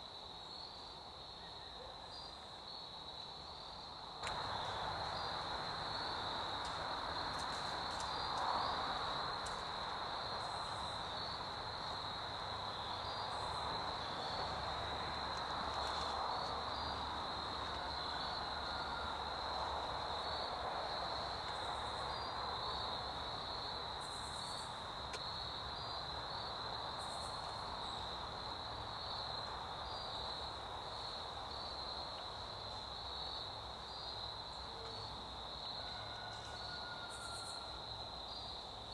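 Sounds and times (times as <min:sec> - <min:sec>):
crickets trilling: 0:00.0 - 0:38.9
faint hiss of woodland air: 0:00.0 - 0:38.9.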